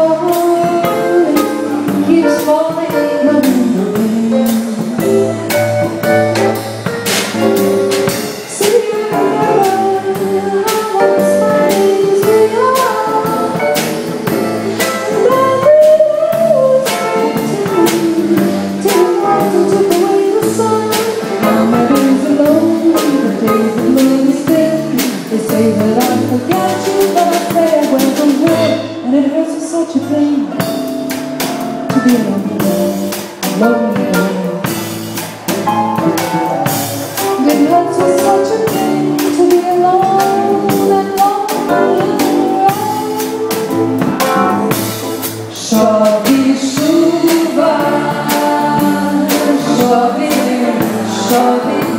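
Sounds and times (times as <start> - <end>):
woman singing into a microphone: 0.0 - 5.5, 8.4 - 30.8, 31.9 - 34.8, 37.2 - 43.8, 45.5 - 51.9
keyboard accompaniment: 0.0 - 51.9.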